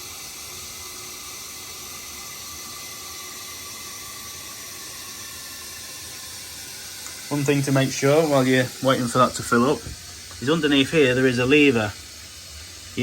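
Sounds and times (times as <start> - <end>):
water filling washing machine: 0.0 - 13.0.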